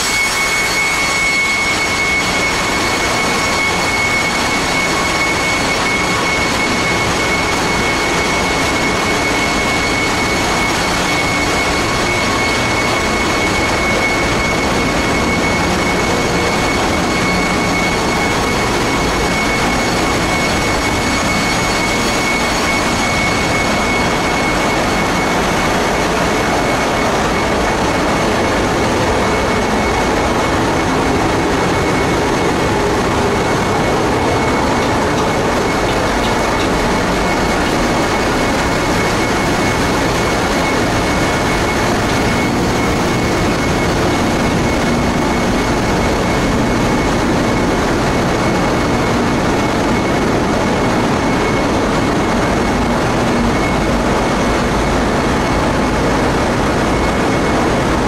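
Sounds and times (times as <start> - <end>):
engine room machinery: 0.0 - 58.0
high whine: 0.0 - 58.0.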